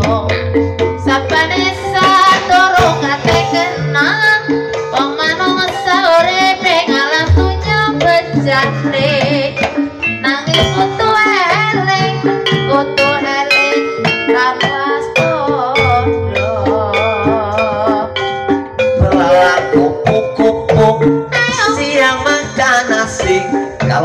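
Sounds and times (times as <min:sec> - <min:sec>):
hand drums beating: 0:00.0 - 0:24.0
held pitched instrument notes: 0:00.0 - 0:24.0
wavering melodic line: 0:00.0 - 0:24.0.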